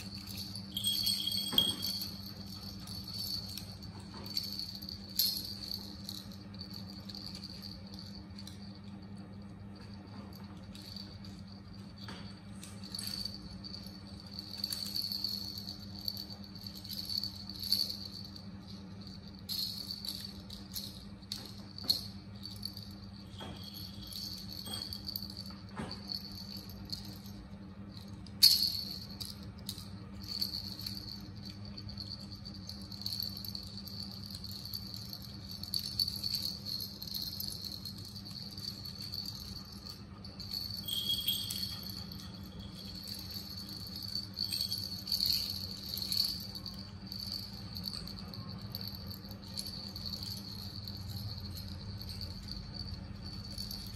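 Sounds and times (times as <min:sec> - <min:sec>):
low hum: 0:00.0 - 0:53.9
plastic rattle toy shaking: 0:00.0 - 0:53.9.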